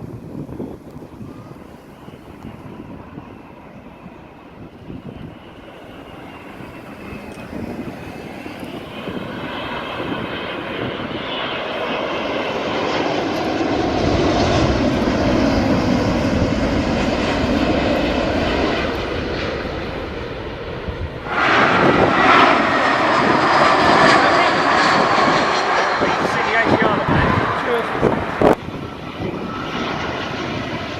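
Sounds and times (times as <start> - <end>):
jet airliner engines rumbling: 0.0 - 30.9.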